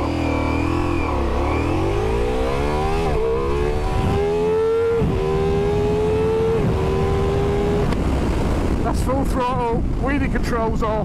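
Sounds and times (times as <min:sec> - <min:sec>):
motorcycle engine accelerating: 0:00.0 - 0:08.9.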